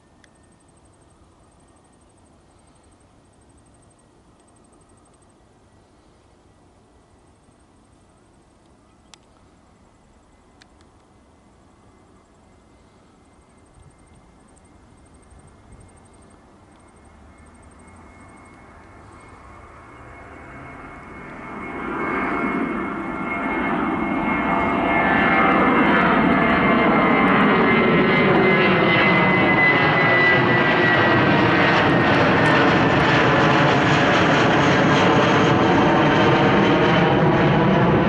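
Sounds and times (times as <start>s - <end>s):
jet engines passing overhead: 0.0s - 38.0s.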